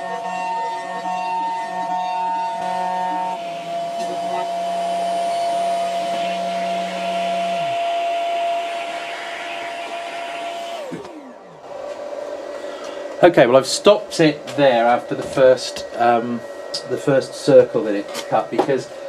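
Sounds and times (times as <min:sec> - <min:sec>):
spindle motor whine: 0:00.0 - 0:19.0.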